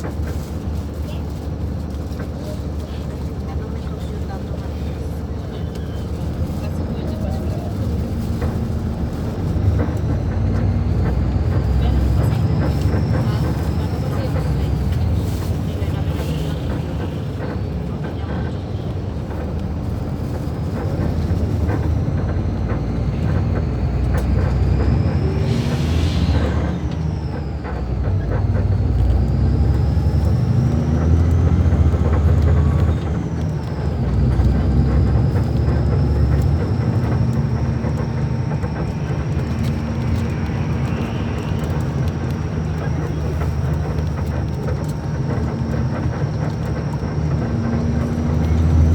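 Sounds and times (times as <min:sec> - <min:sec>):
bus diesel engine rumble: 0:00.0 - 0:48.9
high engine whine: 0:00.0 - 0:48.9.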